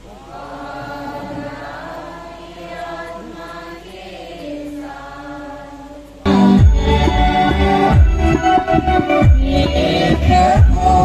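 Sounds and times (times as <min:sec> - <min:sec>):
congregation chanting: 0:00.0 - 0:11.0.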